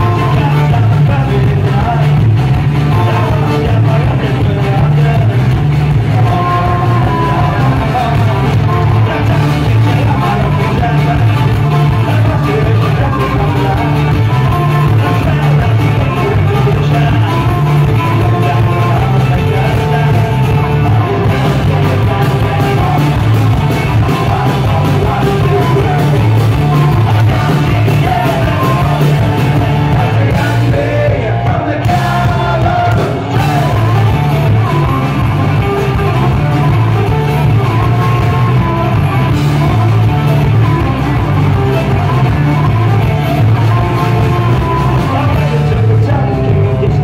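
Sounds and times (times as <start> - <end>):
folk-punk band playing: 0.0 - 47.0
sung and shouted vocals: 0.0 - 47.0.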